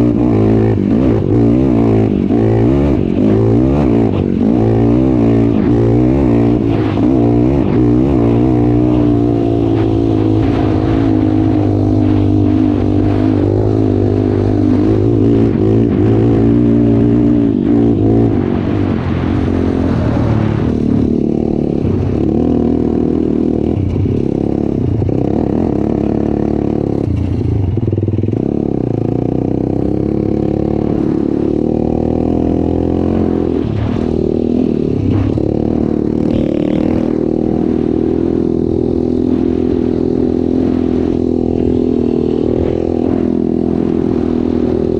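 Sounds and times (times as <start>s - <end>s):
off-road vehicle engine revving: 0.0s - 27.4s, 28.2s - 44.9s.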